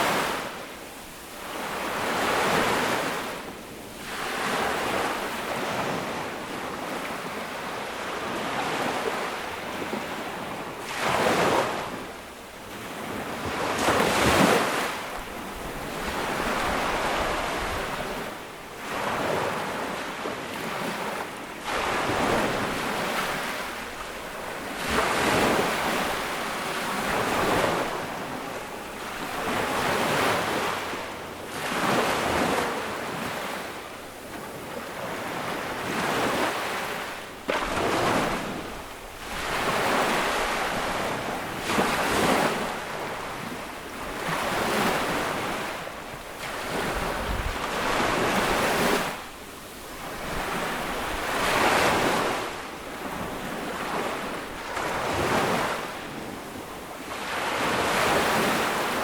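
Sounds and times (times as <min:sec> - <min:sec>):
waves washing on sandy beach: 0:00.0 - 0:59.0.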